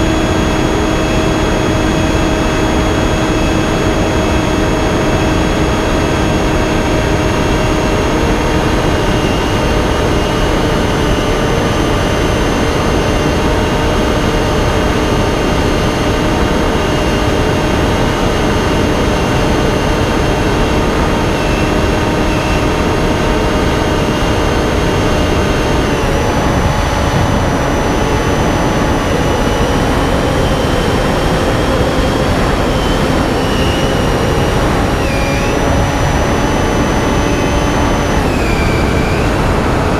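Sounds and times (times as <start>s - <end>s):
electric motor and propeller whine: 0.0s - 39.9s
rushing wind noise: 0.0s - 39.9s.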